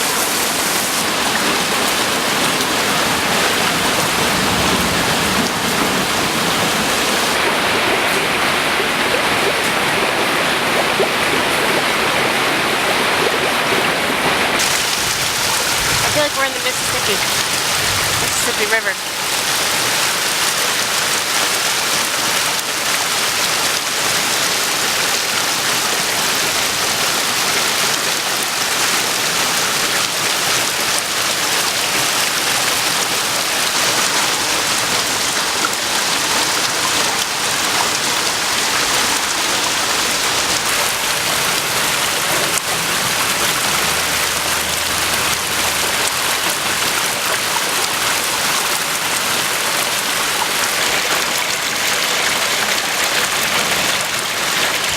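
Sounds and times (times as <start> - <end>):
flooded creek rushing: 0.0 - 54.9
heavy rain: 0.0 - 54.9.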